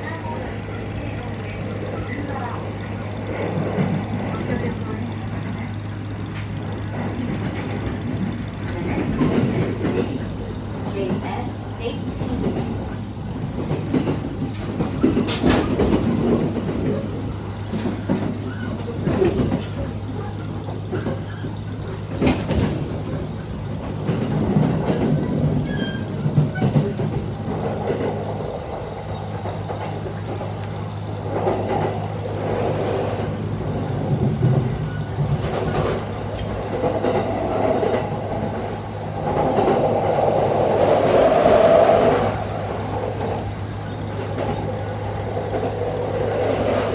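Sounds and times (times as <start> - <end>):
train running rumble: 0.0 - 46.9
rail-joint clicks: 1.4 - 46.9.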